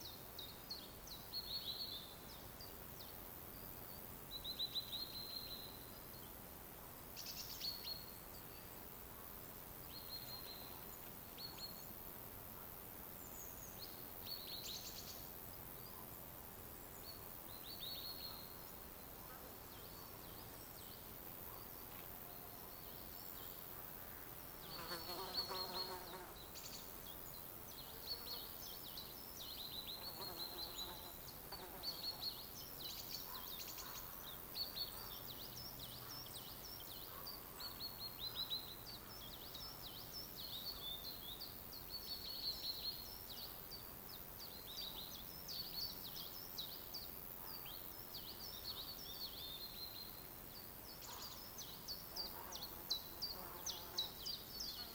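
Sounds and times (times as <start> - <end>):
soft steady hiss: 0.0 - 54.9
songbirds chirping: 0.0 - 54.9.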